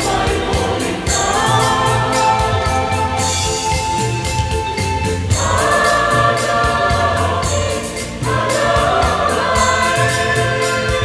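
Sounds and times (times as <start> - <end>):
instrumental accompaniment: 0.0 - 11.0
mixed choir singing: 0.0 - 11.0.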